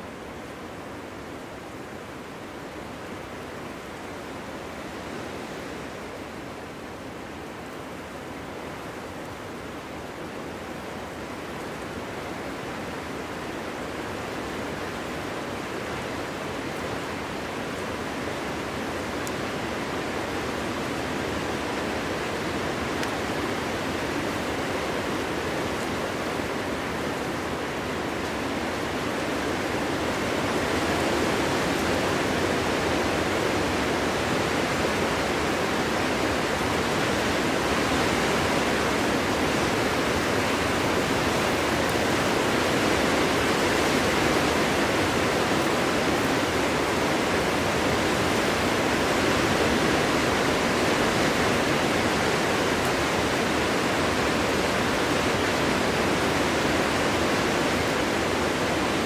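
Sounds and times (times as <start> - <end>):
wind blowing through trees: 0.0 - 59.0.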